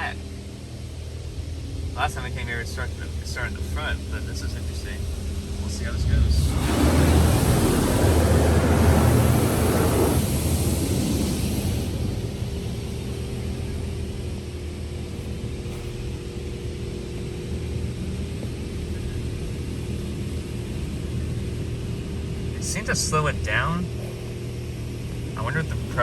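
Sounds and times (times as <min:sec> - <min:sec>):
water jets spraying a truck: 0:00.0 - 0:17.2, 0:17.8 - 0:26.0
car wash machinery hum: 0:00.0 - 0:26.0.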